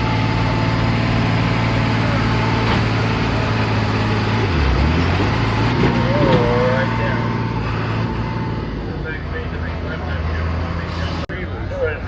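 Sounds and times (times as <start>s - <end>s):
tractor engine running hard: 0.0s - 12.0s.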